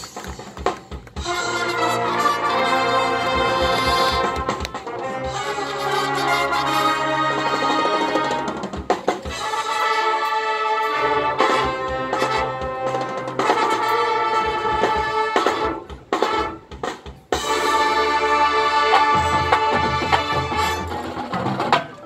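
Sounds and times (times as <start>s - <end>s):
bass drums and percussion: 0.0s - 5.6s, 7.8s - 22.0s
brass chords: 1.2s - 21.9s.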